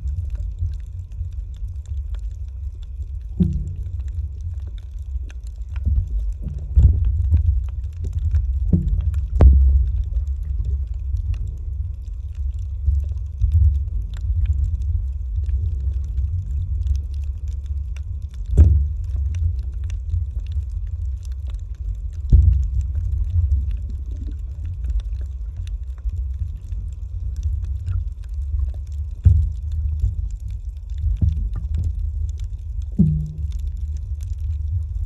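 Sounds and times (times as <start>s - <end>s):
underwater water rumble: 0.0s - 35.0s.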